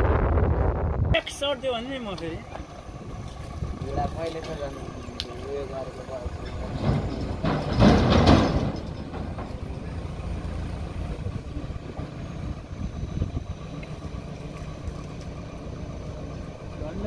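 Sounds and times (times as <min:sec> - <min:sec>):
diesel engine running: 0:00.0 - 0:17.0
loud rough noise: 0:00.0 - 0:17.0.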